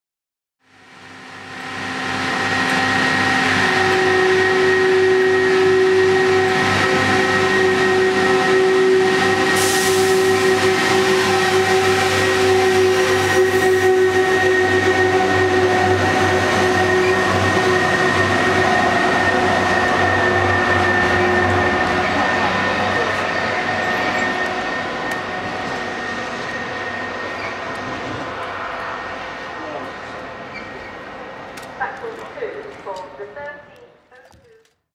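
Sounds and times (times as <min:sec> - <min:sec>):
rail vehicle engines running: 0:00.6 - 0:34.7
constant whine: 0:01.0 - 0:34.2.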